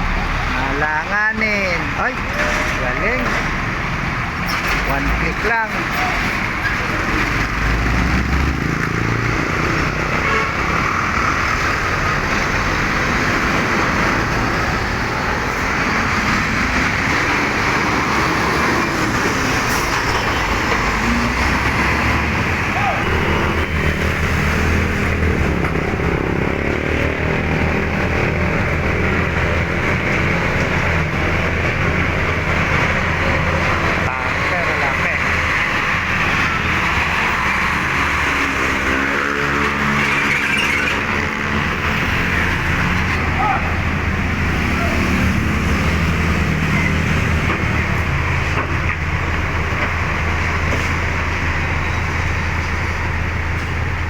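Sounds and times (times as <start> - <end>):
truck engines droning: 0.0 - 54.0
tyre and road noise: 0.0 - 54.0.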